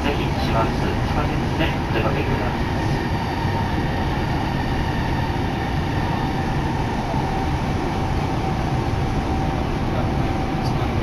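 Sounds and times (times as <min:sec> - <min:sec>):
thin steady whine: 0:00.0 - 0:11.0
train wheels rumbling on rails: 0:00.0 - 0:11.0.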